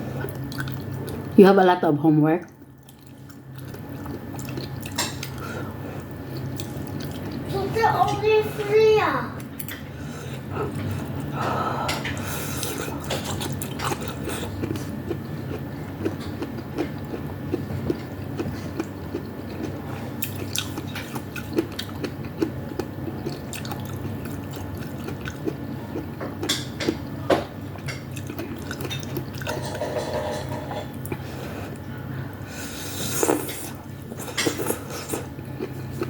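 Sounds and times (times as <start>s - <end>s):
steady low hum: 0.0s - 36.0s
chewing and wet mouth noises: 0.2s - 1.4s, 2.4s - 7.6s, 9.4s - 30.0s, 30.7s - 36.0s.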